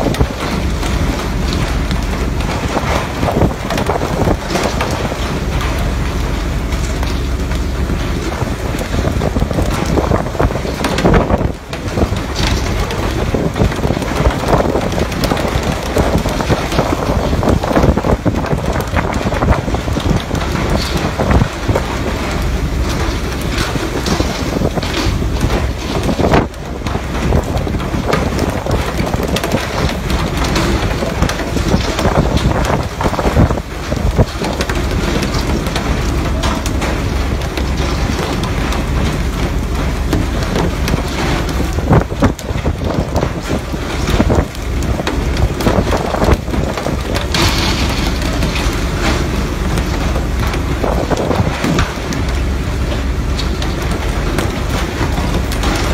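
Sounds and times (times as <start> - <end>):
water spraying along hull: 0.0 - 55.9
wind buffeting microphone: 0.0 - 55.9.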